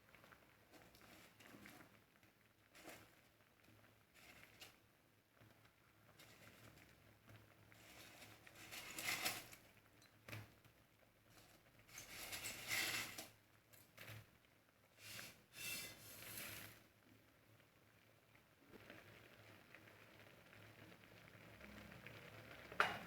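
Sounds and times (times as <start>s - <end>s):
noodles stirred in boiling water: 0.0s - 23.0s.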